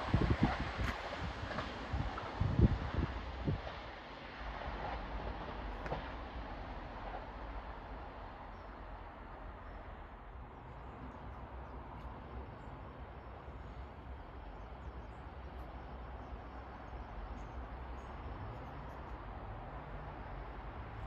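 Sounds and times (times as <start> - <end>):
faint outdoor rumble: 0.0 - 21.0.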